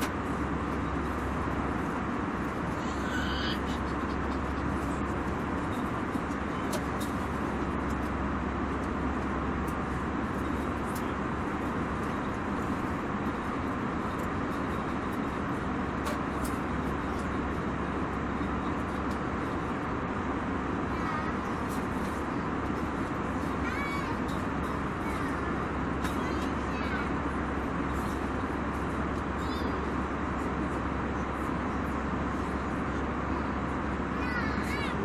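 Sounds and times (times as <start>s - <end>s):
airliner engine rumble: 0.0s - 35.0s.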